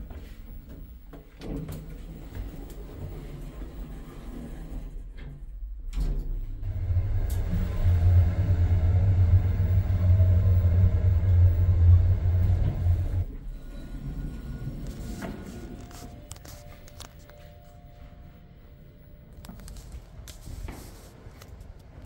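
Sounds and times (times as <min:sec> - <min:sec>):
elevator low hum: 0:00.0 - 0:22.0.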